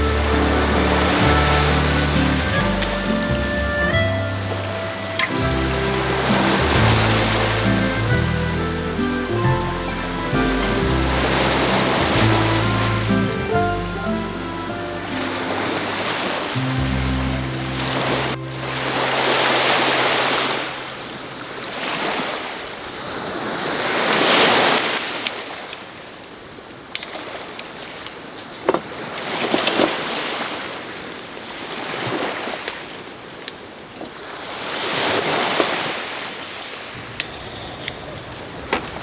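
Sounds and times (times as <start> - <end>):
sea waves washing ashore: 0.0 - 39.0
wind: 0.0 - 39.0.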